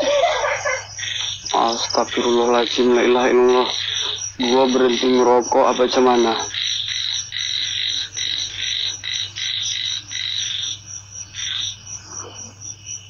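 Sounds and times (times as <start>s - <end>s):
frog calling: 0.0s - 13.0s
high pulsing night insects: 0.0s - 13.0s.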